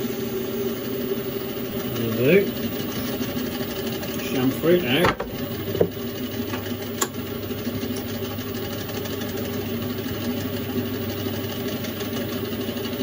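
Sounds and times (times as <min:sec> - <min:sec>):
metal lathe humming: 0:00.0 - 0:13.0.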